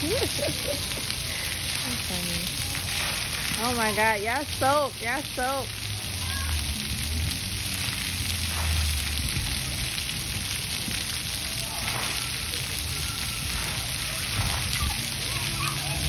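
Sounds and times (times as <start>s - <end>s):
water jets splattering on concrete: 0.0s - 16.0s.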